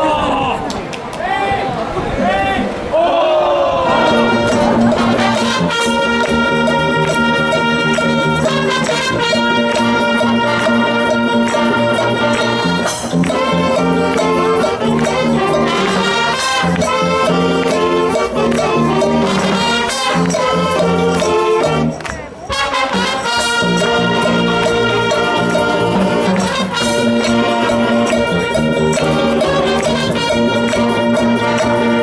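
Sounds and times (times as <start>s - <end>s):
upbeat brass music with beat: 3.9s - 32.0s.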